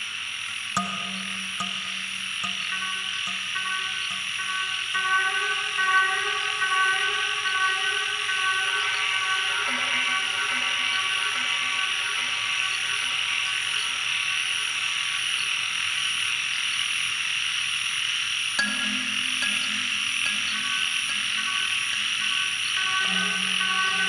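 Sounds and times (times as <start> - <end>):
frogs and night insects: 0.0 - 24.0
ambient synth music: 0.8 - 16.5, 18.6 - 24.0.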